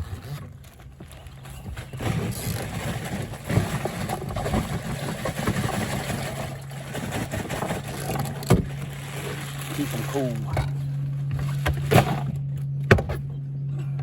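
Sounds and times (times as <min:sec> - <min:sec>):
ice rattling in a cooler: 0:00.0 - 0:12.4
steady low hum: 0:00.0 - 0:14.0.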